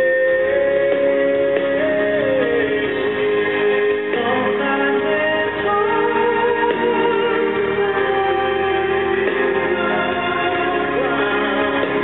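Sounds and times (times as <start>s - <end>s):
dance music: 0.0s - 12.0s
person singing: 0.0s - 12.0s.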